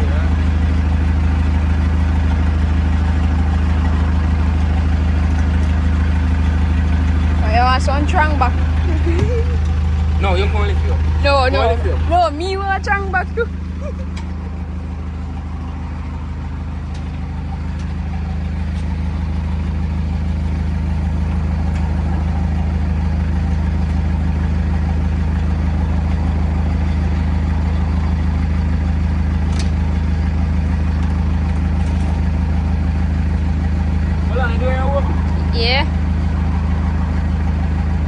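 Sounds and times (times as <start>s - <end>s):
heavy diesel engine idling: 0.0s - 38.0s.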